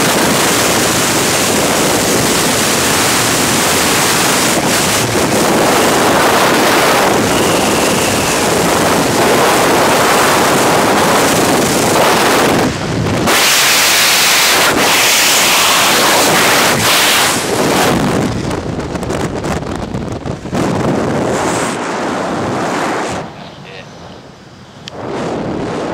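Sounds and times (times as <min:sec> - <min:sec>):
freefall wind rushing: 0:00.0 - 0:25.9
parachute opening: 0:01.4 - 0:24.3.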